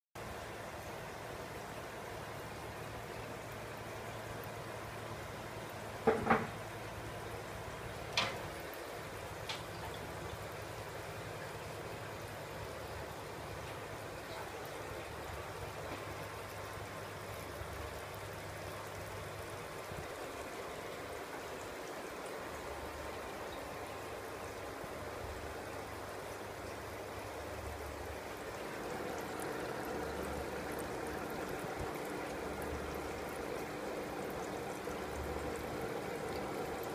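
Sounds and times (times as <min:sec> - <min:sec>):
bubbling trickling water: 0:00.2 - 0:36.9
faint steady hum: 0:00.2 - 0:36.9.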